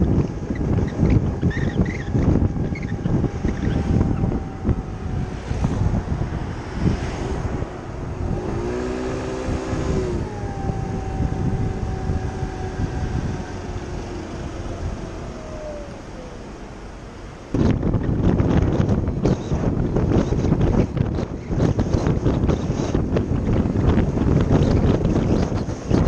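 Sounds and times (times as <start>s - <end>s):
scooter engine humming: 0.0s - 26.0s
wind buffeting microphone: 0.0s - 26.0s.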